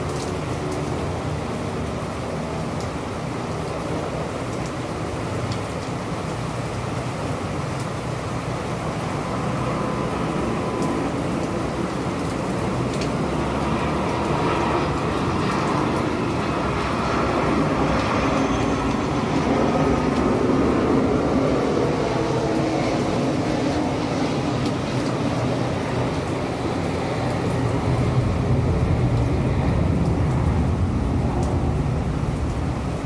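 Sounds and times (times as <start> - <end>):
city rainstorm rumble: 0.0 - 33.0.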